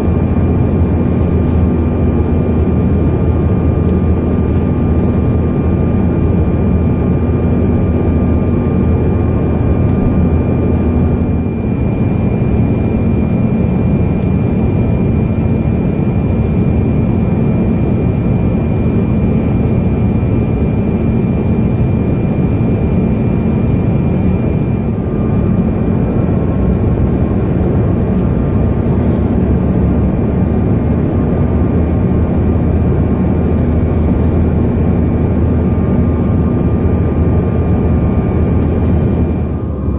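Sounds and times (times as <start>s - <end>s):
faint high engine whine: 0.0s - 39.9s
jet airliner cabin rumble: 0.0s - 39.9s.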